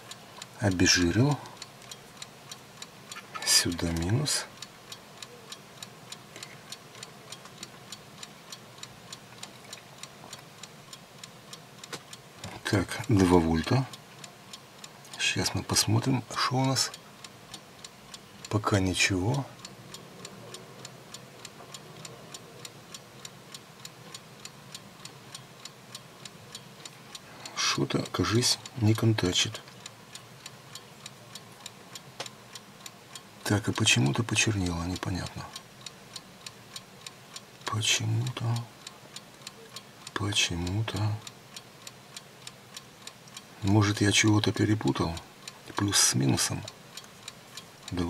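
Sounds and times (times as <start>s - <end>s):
low steady hum: 0.0s - 48.0s
mechanical ticking: 0.0s - 48.0s.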